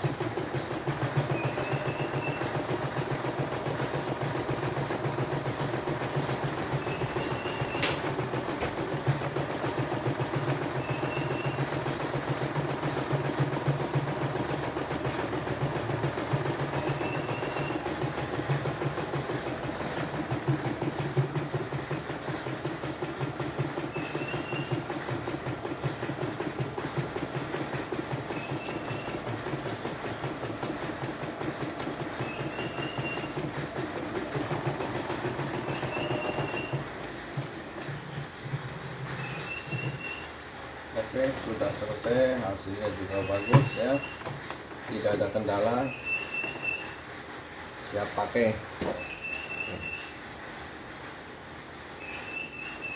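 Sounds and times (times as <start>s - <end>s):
embroidery machine clatter: 0.0s - 52.9s.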